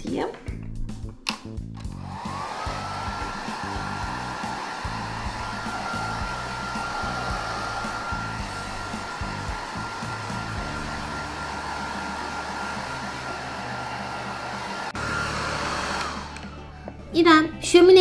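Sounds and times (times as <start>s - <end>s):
hair dryer running: 1.8s - 17.0s.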